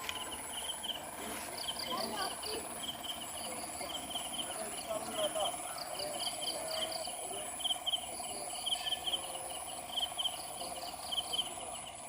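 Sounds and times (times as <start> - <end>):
crickets chirping: 0.0 - 12.0
high insect whine: 0.0 - 12.0
low rapid insect trill: 0.0 - 12.0.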